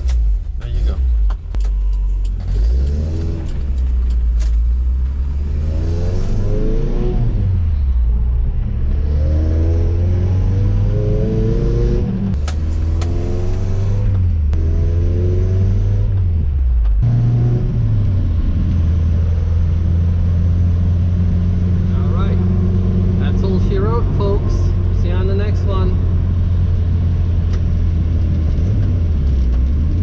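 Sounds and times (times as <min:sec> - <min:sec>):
truck engine accelerating: 0:00.0 - 0:30.0.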